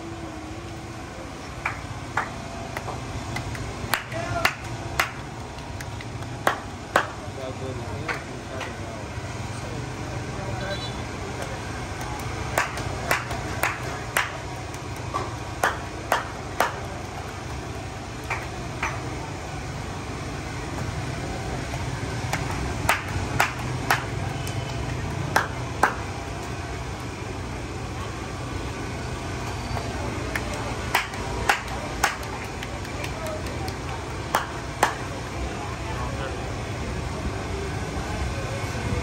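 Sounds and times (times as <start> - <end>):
street noise hum: 0.0 - 39.0.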